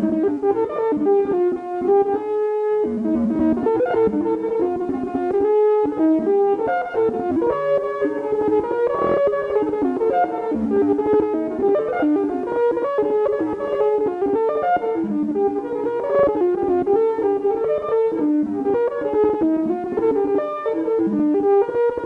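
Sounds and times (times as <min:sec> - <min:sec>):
synthesizer plucked notes sequence: 0:00.0 - 0:22.0.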